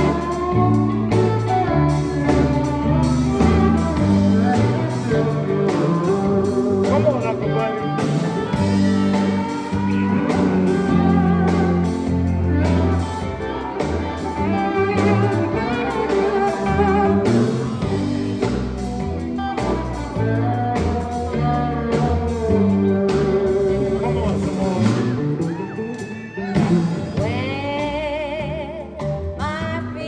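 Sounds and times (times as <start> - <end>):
gospel band playing: 0.0 - 30.0
sliding steel guitar: 0.0 - 30.0.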